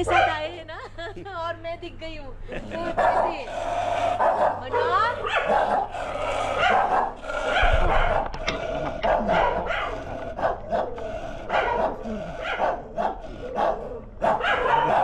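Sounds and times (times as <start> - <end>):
dogs barking: 0.0 - 0.6, 2.7 - 15.0.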